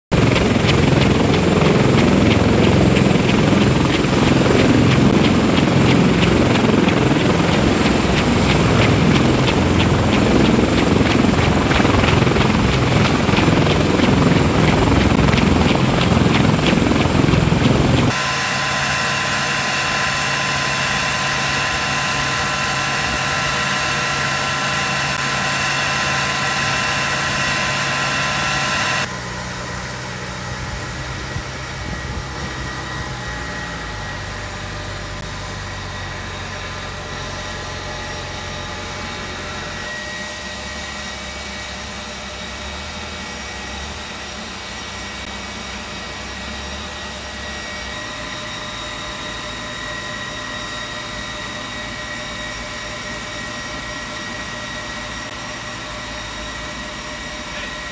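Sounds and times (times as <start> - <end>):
aircraft engine high whine: 0.1 - 57.9
aircraft engine low hum: 0.1 - 57.9.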